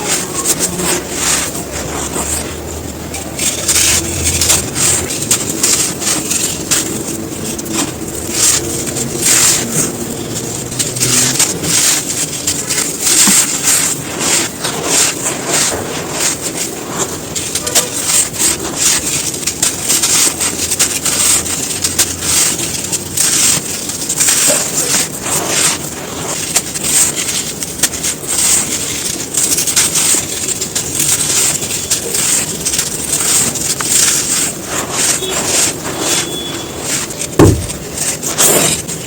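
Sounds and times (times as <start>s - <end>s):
sand chunks crunching: 0.0s - 39.0s.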